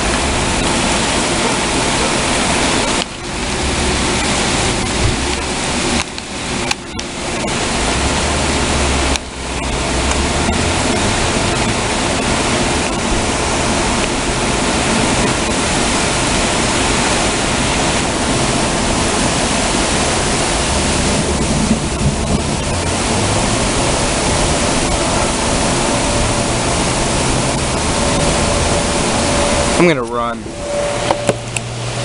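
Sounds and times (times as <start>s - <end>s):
heavy rain pouring: 0.0s - 32.0s.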